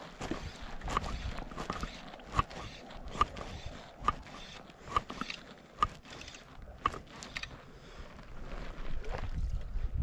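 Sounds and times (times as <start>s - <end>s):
faint rustle: 0.0s - 10.0s.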